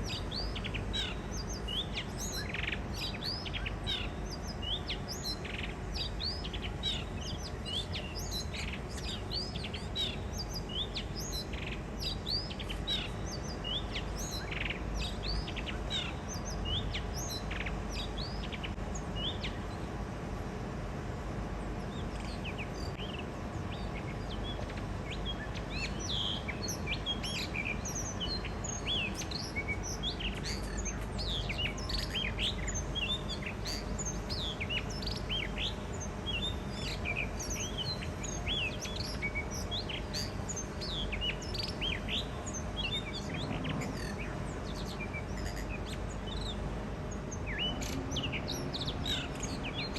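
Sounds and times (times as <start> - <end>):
thrushes singing: 0.0 - 49.9.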